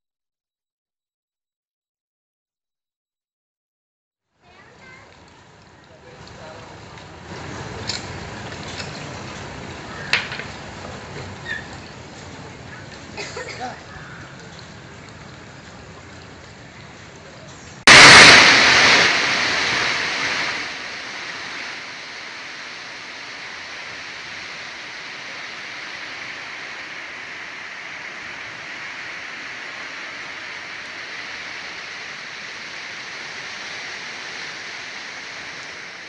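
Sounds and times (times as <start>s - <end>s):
rushing water: 4.6s - 36.0s.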